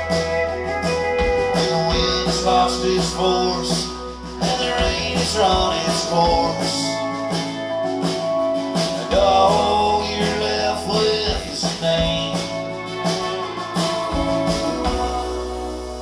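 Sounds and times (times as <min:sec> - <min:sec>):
bass: 0:00.0 - 0:16.0
drums: 0:00.0 - 0:16.0
guitars: 0:00.0 - 0:16.0.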